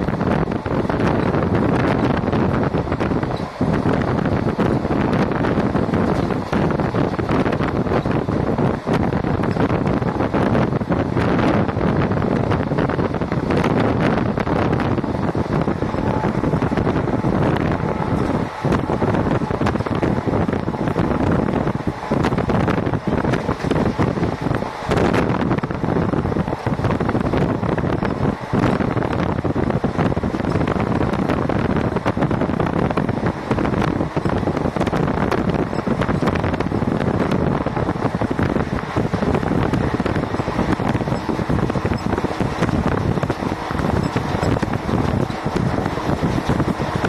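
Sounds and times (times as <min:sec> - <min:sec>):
train wheels rumbling on track: 0:00.0 - 0:47.0
wind buffeting microphone: 0:00.0 - 0:47.0.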